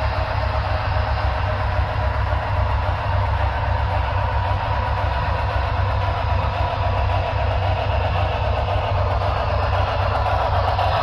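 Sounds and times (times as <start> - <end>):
model train wheels rolling: 0.0 - 11.0.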